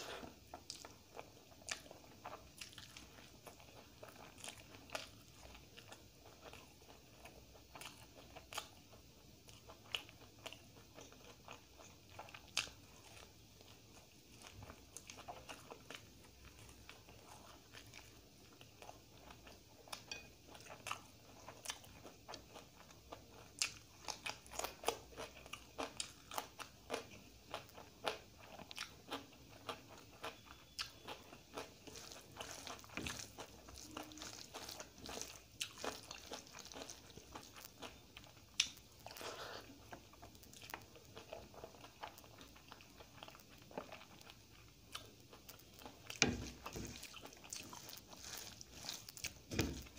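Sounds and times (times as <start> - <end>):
chewing food: 0.0 - 49.9.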